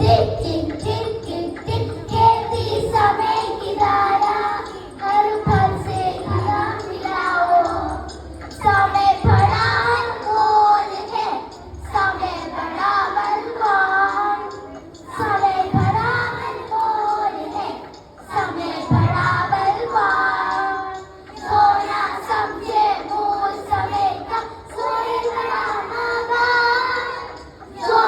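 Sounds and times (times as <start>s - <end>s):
children singing: 0.0s - 28.0s.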